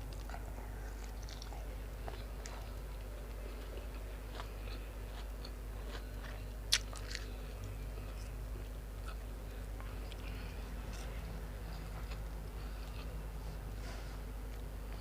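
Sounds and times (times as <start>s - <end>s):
chewing and biting food: 0.0s - 15.0s
low hum: 0.0s - 15.0s.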